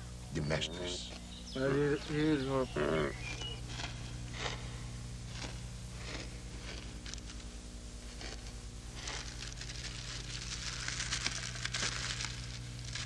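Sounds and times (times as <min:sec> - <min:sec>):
steady low hum: 0:00.0 - 0:13.0
leafy branches rustling: 0:01.1 - 0:13.0.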